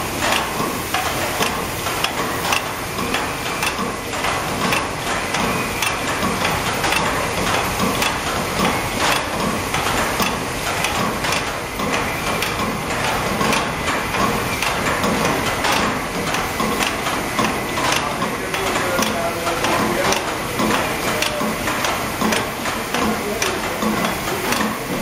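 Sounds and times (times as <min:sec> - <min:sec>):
production line mechanical clatter: 0:00.0 - 0:25.0.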